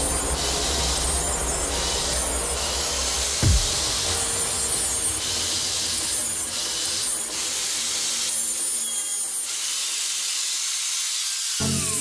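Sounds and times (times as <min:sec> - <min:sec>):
steady hiss: 0:00.0 - 0:11.6.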